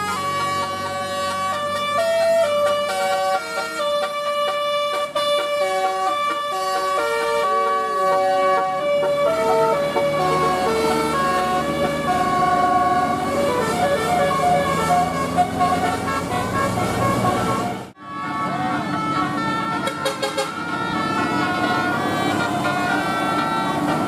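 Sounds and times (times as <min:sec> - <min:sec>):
multi-tone bus air horn tune: 0:00.0 - 0:24.0.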